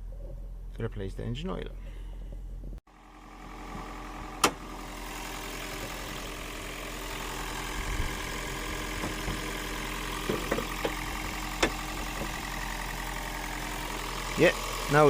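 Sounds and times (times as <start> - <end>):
car engine idling: 1.8 - 15.0.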